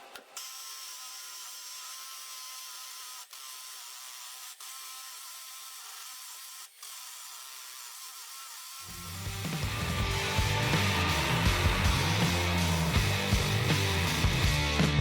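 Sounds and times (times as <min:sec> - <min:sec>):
hammer drill drilling into brick: 0:00.0 - 0:14.6.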